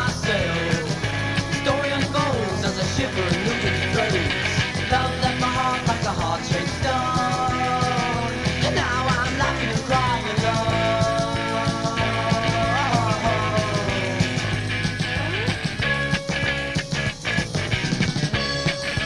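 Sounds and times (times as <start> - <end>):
rock band playing: 0.0 - 19.0.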